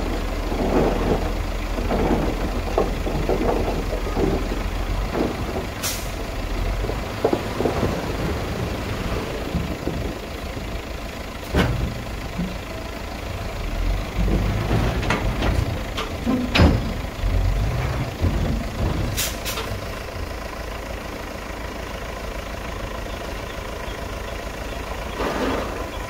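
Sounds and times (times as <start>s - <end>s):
earth and rocks sliding: 0.0s - 21.0s, 24.8s - 26.0s
dump truck engine running: 0.0s - 26.0s.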